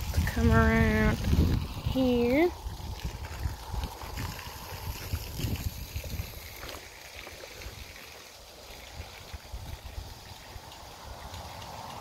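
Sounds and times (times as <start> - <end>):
wind rumble on microphone: 0.0 - 8.0, 8.7 - 12.0.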